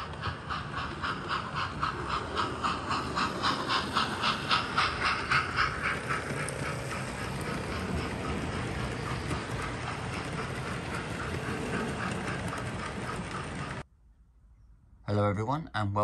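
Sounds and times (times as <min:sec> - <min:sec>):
steam locomotive chuffing: 0:00.0 - 0:13.8.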